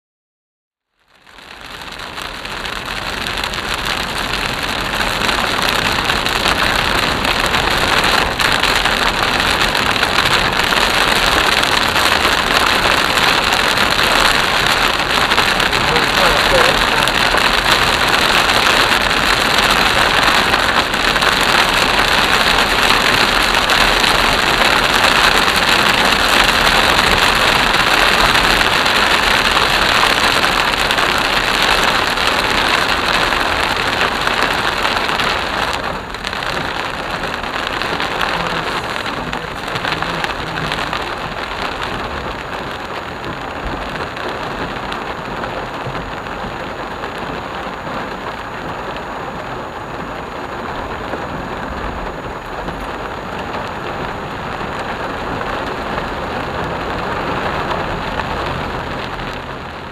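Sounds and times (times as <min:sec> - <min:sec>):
heavy rain on car roof: 0:00.8 - 0:59.9
tyres hissing on wet road: 0:01.4 - 0:59.9.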